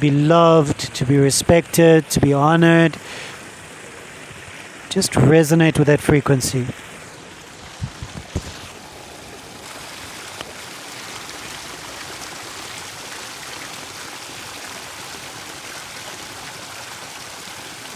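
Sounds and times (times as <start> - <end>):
water trickling: 0.0 - 17.9.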